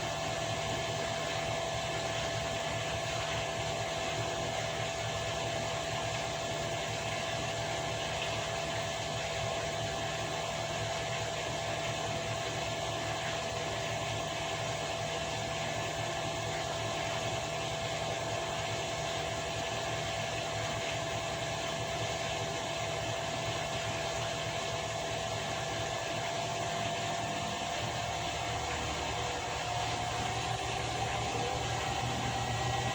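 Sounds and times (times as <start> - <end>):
washing machine running: 0.0 - 32.9.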